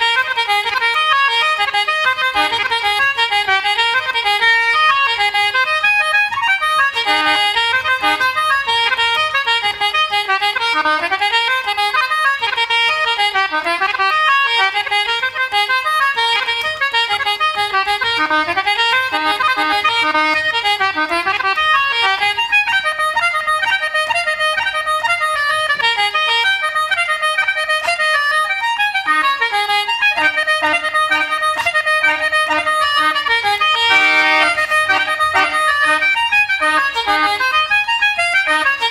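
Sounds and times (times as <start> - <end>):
concertina and accordion reels: 0.0 - 38.9.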